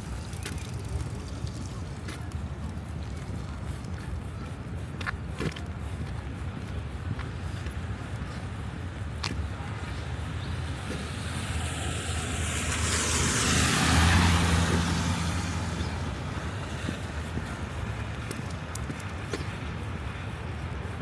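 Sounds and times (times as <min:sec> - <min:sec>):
traffic rumble: 0:00.0 - 0:21.0
tyres hissing on wet street: 0:00.0 - 0:21.0
vehicle engine hum: 0:00.0 - 0:21.0.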